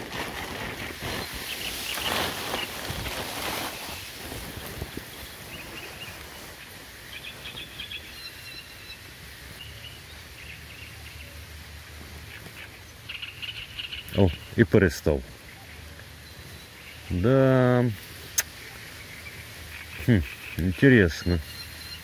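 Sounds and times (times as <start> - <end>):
light rain: 0.0 - 22.0
wind: 0.0 - 22.0.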